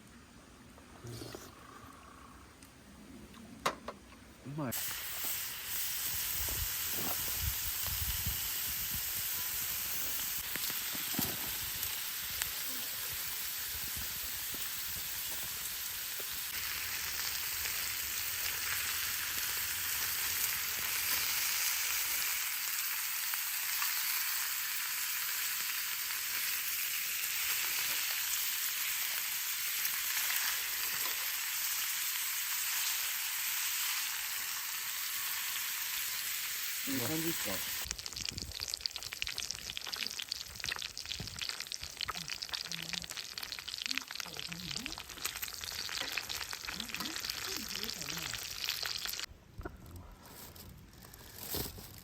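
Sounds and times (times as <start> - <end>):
food sizzling in a skillet: 4.6 - 49.3.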